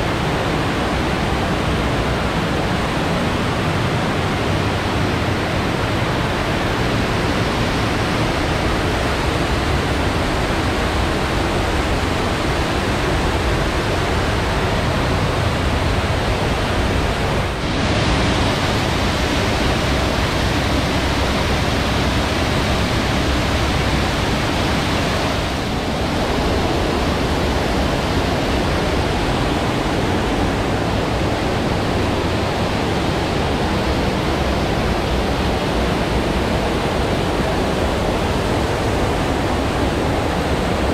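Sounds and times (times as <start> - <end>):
waterfall splashing: 0.0 - 40.9.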